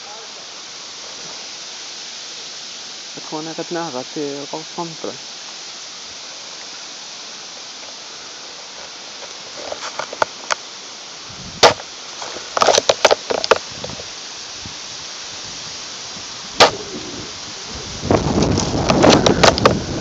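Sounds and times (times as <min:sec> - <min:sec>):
wind hiss on microphone: 0:00.0 - 0:20.0.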